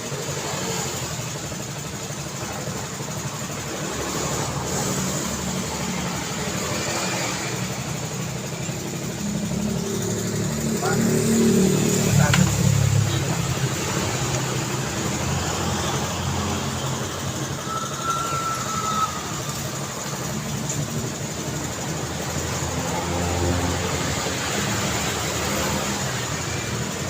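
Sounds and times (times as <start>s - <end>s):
road traffic hum: 0.0s - 27.0s
high steady tone: 1.9s - 24.3s.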